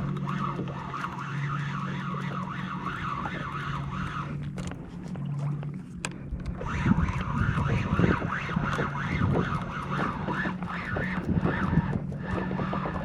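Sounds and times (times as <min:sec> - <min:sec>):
fishing reel whirring: 0:00.0 - 0:13.0
steady low hum: 0:00.0 - 0:13.0.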